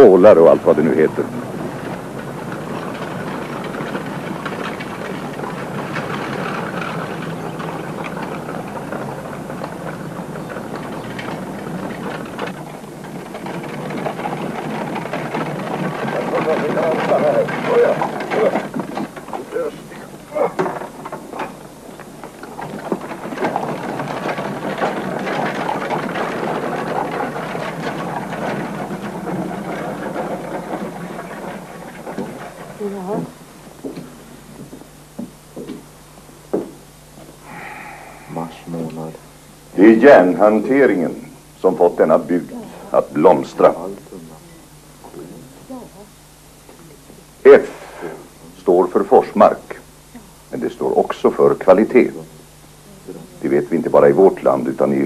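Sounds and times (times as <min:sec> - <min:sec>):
carriage wheels rumbling on stone: 0:00.0 - 0:34.1, 0:37.4 - 0:46.0, 0:47.2 - 0:55.0
hooves clicking: 0:00.0 - 0:55.0.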